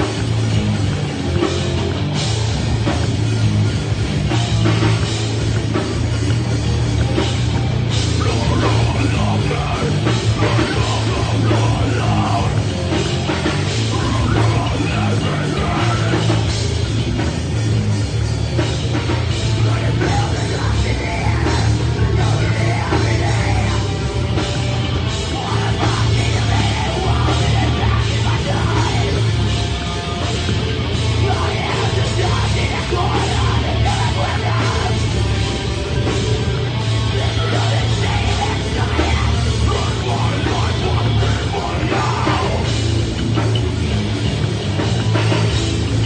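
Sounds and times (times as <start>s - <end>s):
heavy metal band playing: 0.0s - 46.0s.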